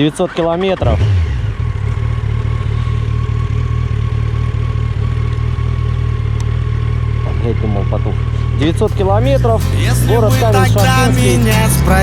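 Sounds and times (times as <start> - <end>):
motorcycle engine idling: 1.5 - 12.0.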